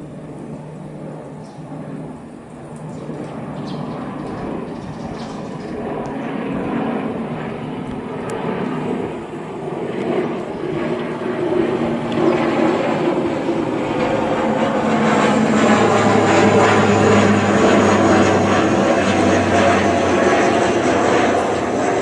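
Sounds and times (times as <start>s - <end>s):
turboprop airliner flying overhead: 0.0s - 22.0s.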